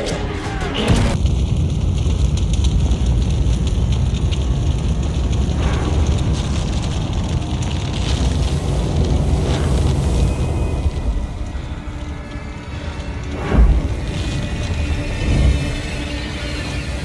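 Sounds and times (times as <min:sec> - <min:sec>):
loud low rumble: 0:00.5 - 0:17.0.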